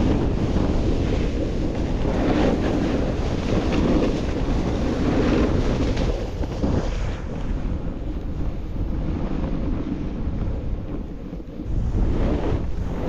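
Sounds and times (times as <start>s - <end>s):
snowboard scraping on snow: 0.0s - 13.0s
wind rushing over microphone: 0.0s - 13.0s.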